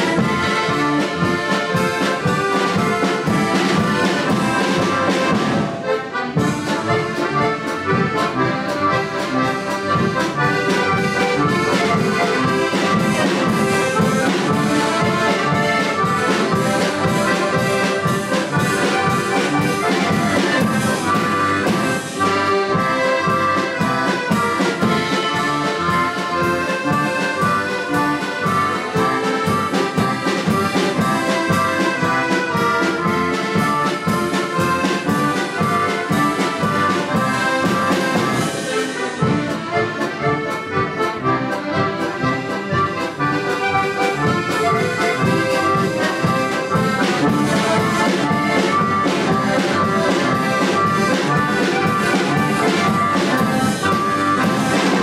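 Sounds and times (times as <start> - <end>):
accordion orchestra playing: 0.0 - 55.0.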